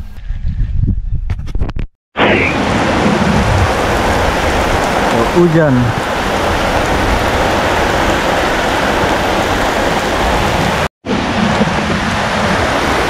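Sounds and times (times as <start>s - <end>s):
heavy rain on sand: 2.2s - 13.0s.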